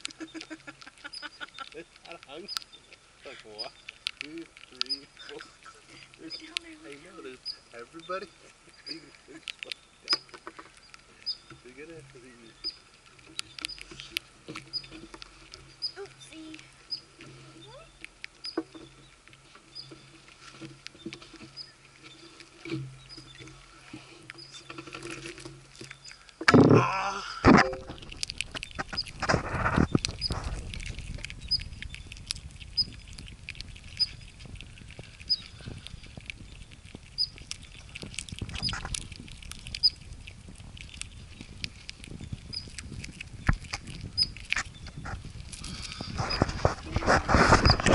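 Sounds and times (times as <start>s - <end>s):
squirrels scratching and pattering: 0.0s - 26.8s, 27.4s - 47.9s.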